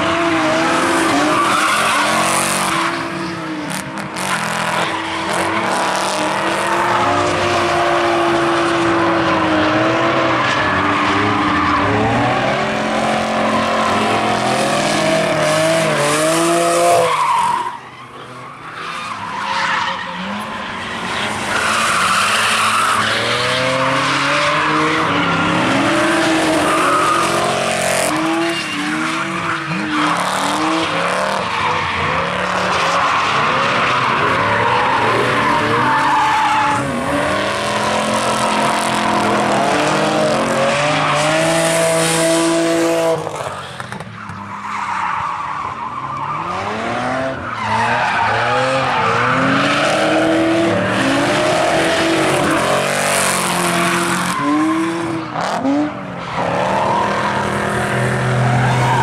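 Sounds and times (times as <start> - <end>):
car engines revving: 0.0 - 59.0
tyre squeal and skidding: 0.0 - 59.0.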